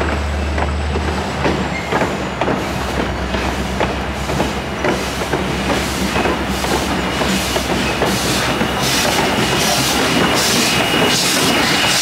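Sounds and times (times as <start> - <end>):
train coaches rumbling past: 0.0 - 12.0
wheels clicking over rail joints: 0.0 - 12.0.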